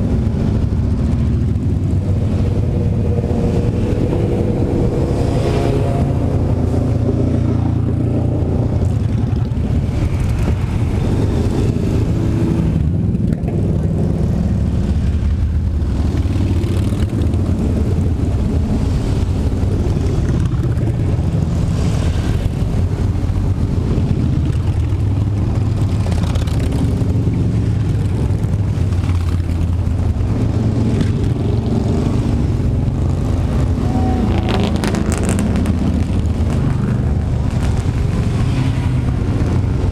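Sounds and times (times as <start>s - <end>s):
motorcycles riding past: 0.0s - 39.9s.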